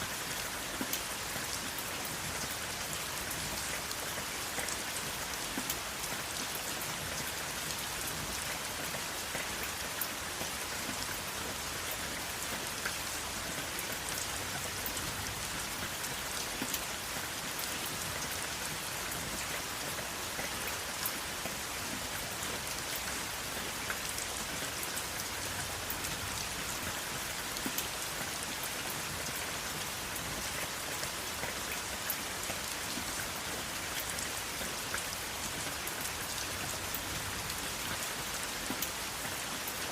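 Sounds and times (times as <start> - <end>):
raindrops ticking on a surface: 0.0 - 39.9
steady rainfall: 0.0 - 39.9.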